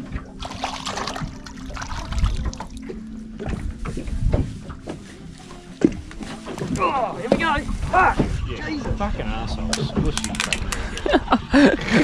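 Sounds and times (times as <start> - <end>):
water noise: 0.0 - 12.0.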